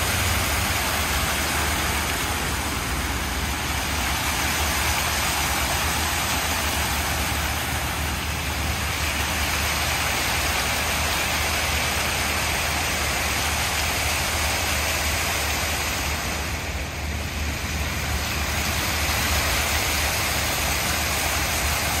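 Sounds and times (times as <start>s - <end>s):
fountain jets splashing on paving: 0.0s - 22.0s.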